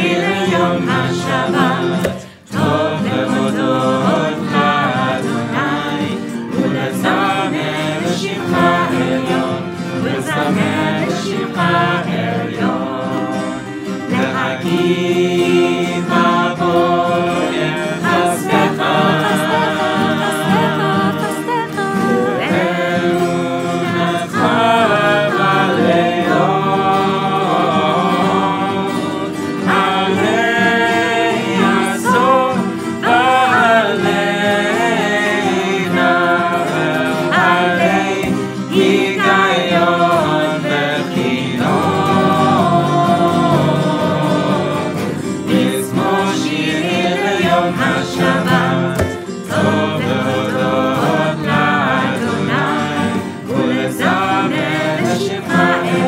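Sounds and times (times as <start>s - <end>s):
acoustic guitars strumming: 0.0s - 56.0s
group singing: 0.0s - 56.0s.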